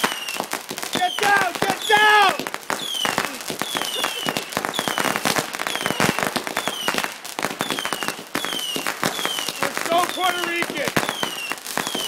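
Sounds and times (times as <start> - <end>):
fireworks popping and crackling: 0.0 - 12.0
high falling firework whistles: 0.0 - 12.0.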